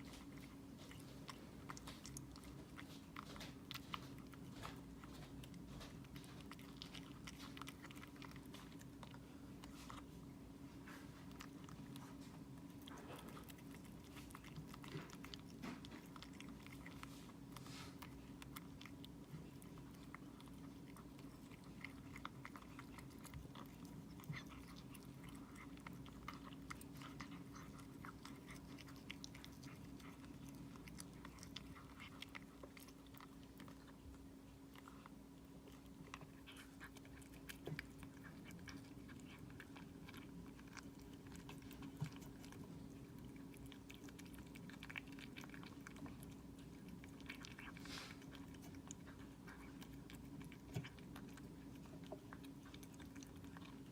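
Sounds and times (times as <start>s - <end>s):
cat chewing: 0.0s - 53.9s.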